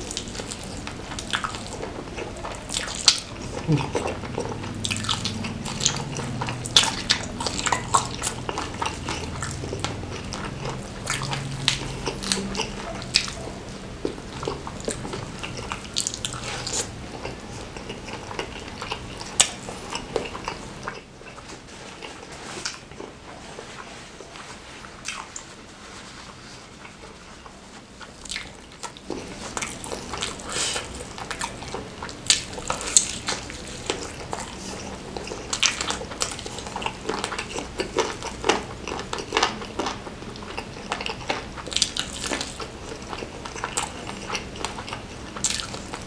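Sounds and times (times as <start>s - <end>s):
wet biting and chewing: 0.0s - 23.2s, 28.0s - 46.0s.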